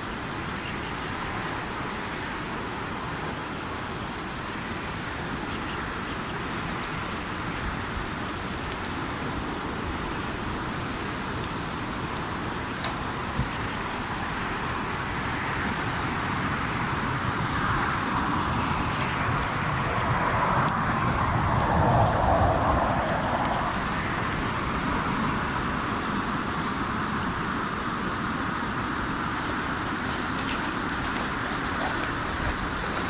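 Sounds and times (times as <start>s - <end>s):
wood fire crackling and popping: 5.5s - 33.0s.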